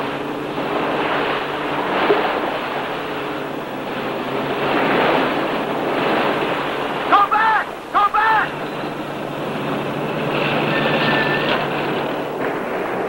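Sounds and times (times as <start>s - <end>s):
low steady drone: 0.0s - 13.0s
surf washing against rocks: 0.0s - 13.0s.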